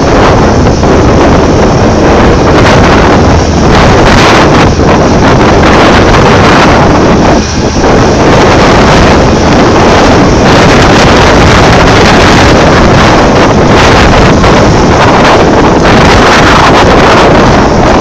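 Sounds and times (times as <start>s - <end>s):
mining excavator running: 0.0s - 18.0s
wind buffeting microphone: 0.0s - 18.0s.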